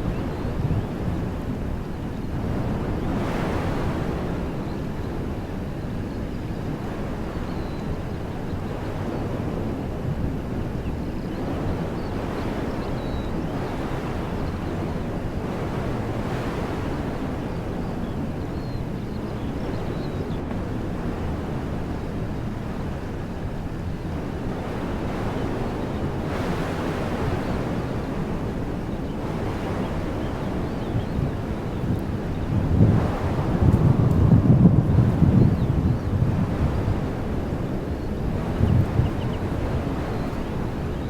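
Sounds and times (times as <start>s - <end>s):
wind blowing through trees: 0.0s - 41.0s
wind rumble on microphone: 0.0s - 41.0s.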